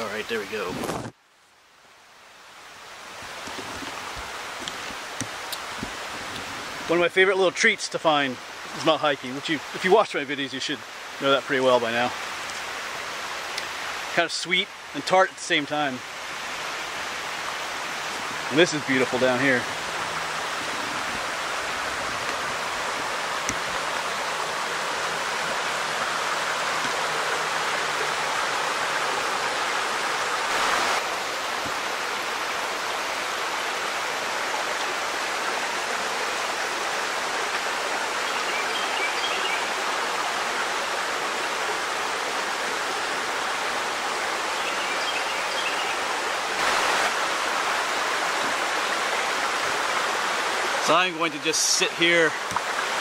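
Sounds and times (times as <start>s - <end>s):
creek rushing over rocks: 0.0s - 1.2s, 2.6s - 53.0s.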